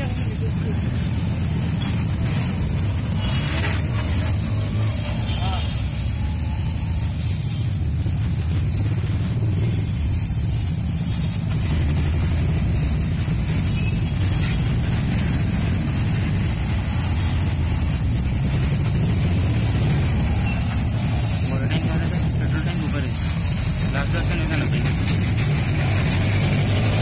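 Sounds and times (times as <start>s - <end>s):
welding torch flame roaring: 0.0s - 27.0s.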